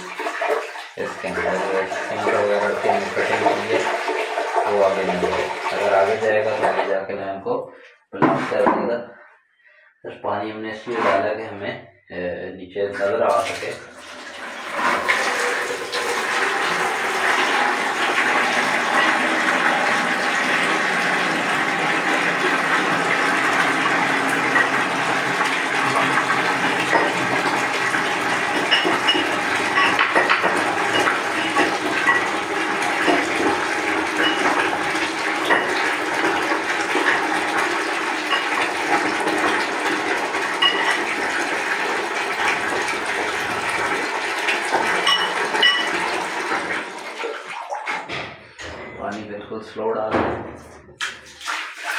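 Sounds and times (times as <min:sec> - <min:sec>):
water running into toilet pan: 0:00.0 - 0:07.3, 0:12.8 - 0:49.2, 0:50.4 - 0:51.9.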